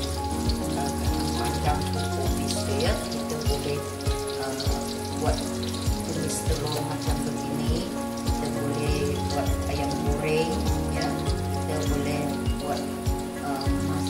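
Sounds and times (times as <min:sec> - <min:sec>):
background music with steady beat: 0:00.0 - 0:14.0
food sizzling in hot oil: 0:00.0 - 0:14.0.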